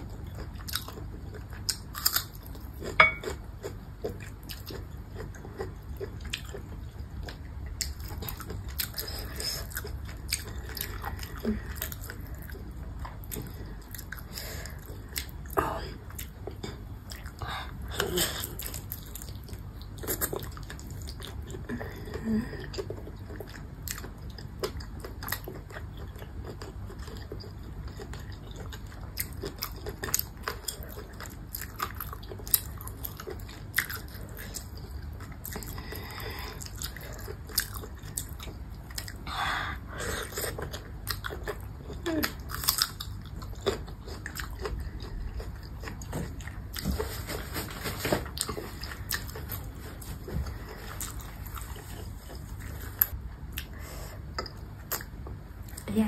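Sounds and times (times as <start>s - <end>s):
soft chewing: 0.0s - 56.0s.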